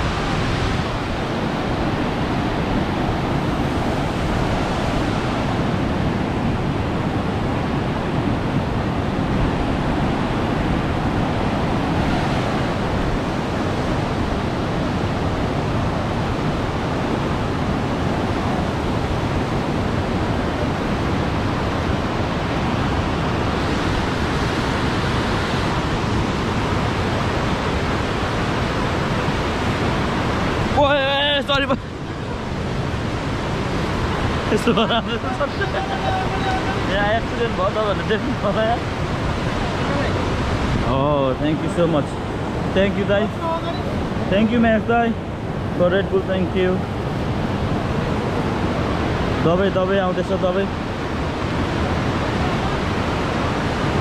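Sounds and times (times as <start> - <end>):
whitewater rapids rushing: 0.0 - 54.0.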